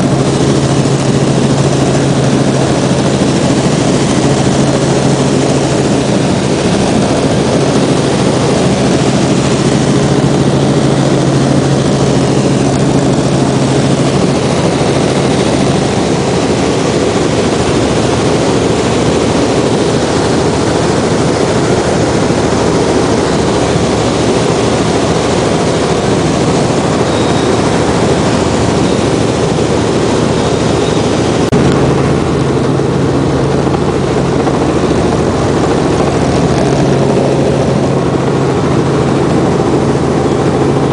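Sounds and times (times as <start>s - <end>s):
helicopter cabin drone: 0.0s - 40.9s.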